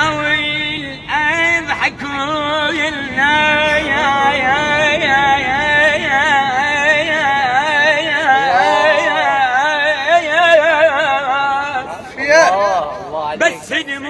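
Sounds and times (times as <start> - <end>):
young man singing wordless run: 0.0 - 14.0.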